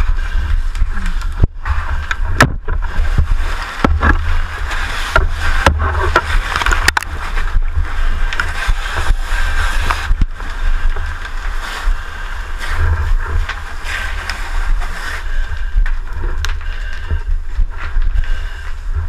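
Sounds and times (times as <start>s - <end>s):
gear knocking and scraping: 0.0s - 19.0s.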